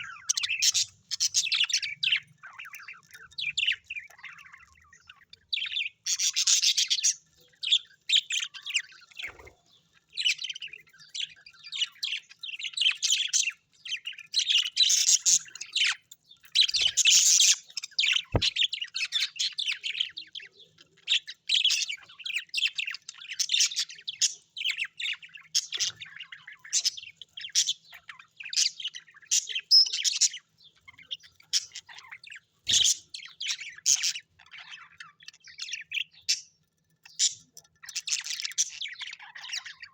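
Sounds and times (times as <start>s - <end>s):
small parrots chirping: 0.0s - 39.9s.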